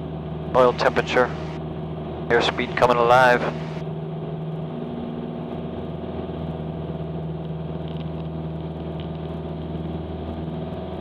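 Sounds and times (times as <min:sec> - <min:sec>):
propeller plane engine at full power: 0:00.0 - 0:11.0.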